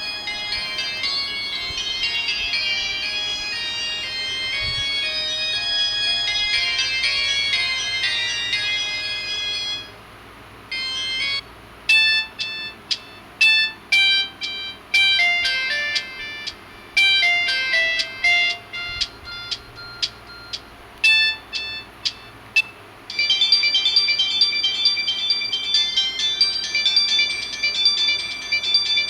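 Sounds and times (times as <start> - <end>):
mobile phone ringtones: 0.0 - 10.0, 10.7 - 29.0.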